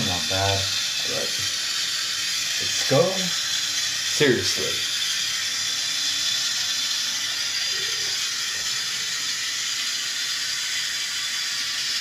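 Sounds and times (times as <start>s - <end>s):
toilet fill valve hissing: 0.0s - 12.0s.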